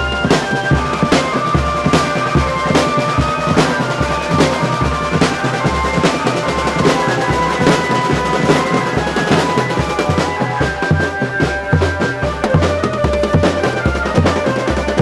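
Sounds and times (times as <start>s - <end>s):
high held melody line: 0.0s - 15.0s
snare and tenor drums rattling: 0.0s - 15.0s.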